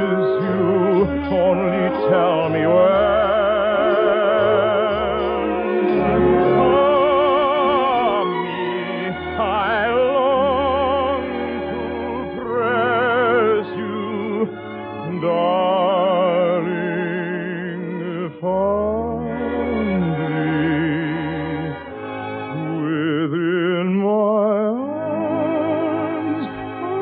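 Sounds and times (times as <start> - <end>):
operatic singing with vibrato: 0.0 - 27.0
sustained musical accompaniment: 0.0 - 27.0.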